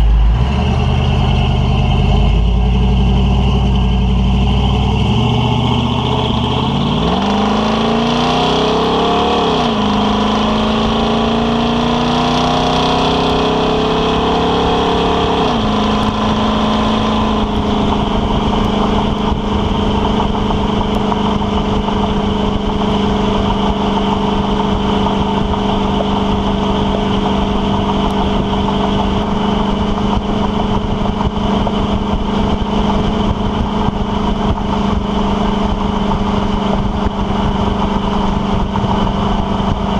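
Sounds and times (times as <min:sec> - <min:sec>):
truck engine accelerating: 0:00.0 - 0:39.9
tyre and road noise: 0:00.0 - 0:39.9.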